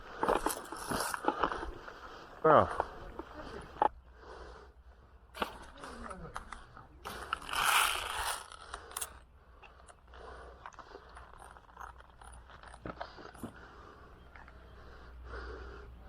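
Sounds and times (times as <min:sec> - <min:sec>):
light clicks and crunches: 0:00.1 - 0:04.0, 0:05.4 - 0:14.7.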